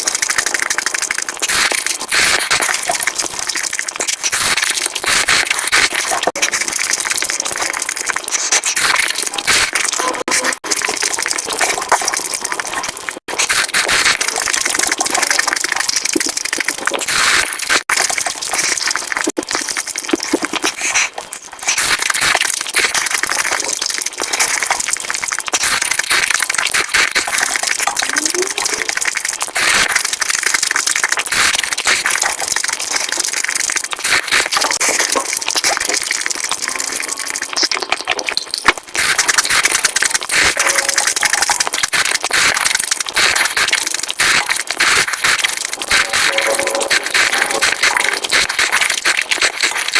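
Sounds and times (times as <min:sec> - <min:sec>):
chewing and crunching food: 0:00.0 - 0:49.9.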